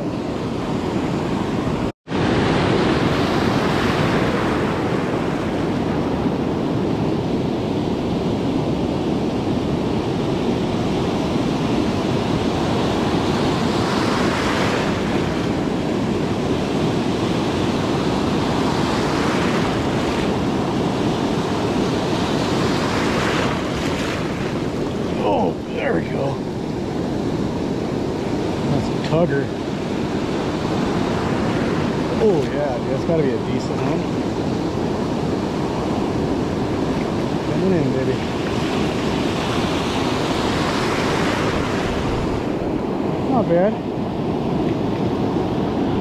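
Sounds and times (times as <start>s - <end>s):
ocean surf breaking: 0.0s - 46.0s
wind buffeting microphone: 0.0s - 46.0s.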